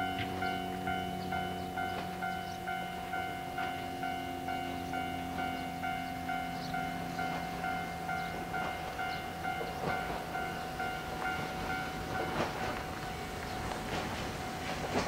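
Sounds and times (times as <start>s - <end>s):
level-crossing warning bell: 0.0s - 15.0s
train wheels clicking over rail joints: 0.0s - 15.0s.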